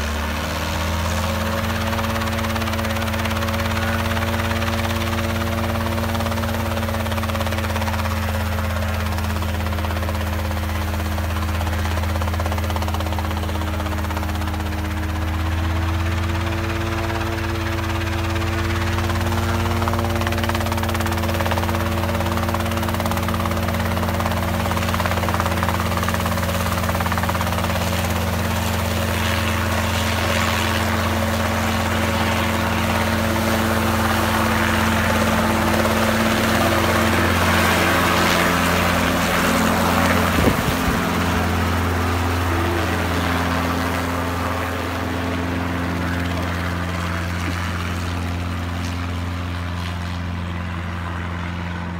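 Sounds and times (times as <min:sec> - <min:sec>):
helicopter rotor drone: 0:00.0 - 0:51.9.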